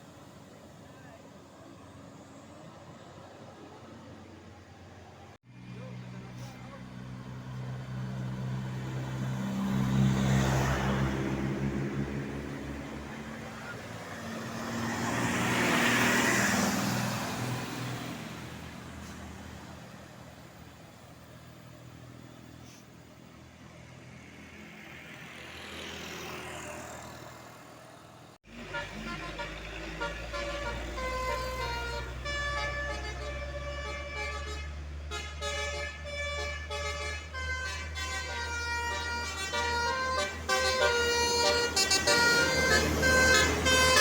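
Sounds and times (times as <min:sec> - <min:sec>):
vehicles passing with engine drone: 0:00.0 - 0:44.0.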